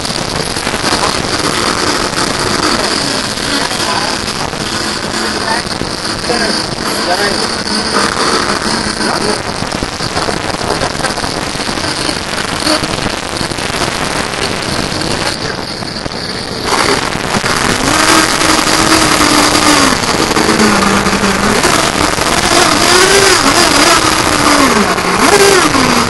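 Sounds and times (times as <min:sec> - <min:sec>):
nearer engine revving: 0:00.0 - 0:26.0
rc boat engines whining: 0:00.0 - 0:26.0.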